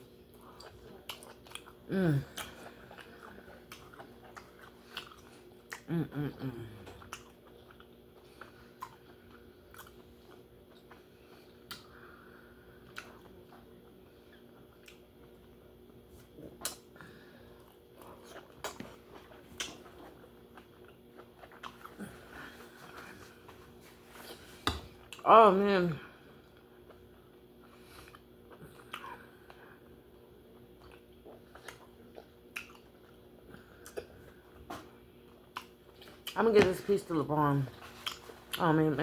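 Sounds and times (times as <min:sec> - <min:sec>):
person chewing food: 0:00.0 - 0:25.3, 0:26.1 - 0:36.9, 0:37.7 - 0:38.7
faint steady hum: 0:00.0 - 0:39.0.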